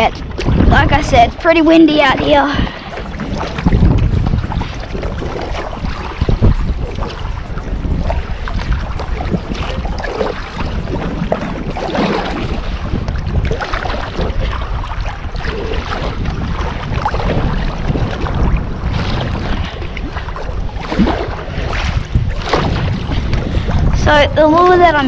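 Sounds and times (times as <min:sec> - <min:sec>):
paddle splashing water: 0:00.0 - 0:25.0
wind buffeting microphone: 0:00.0 - 0:25.0.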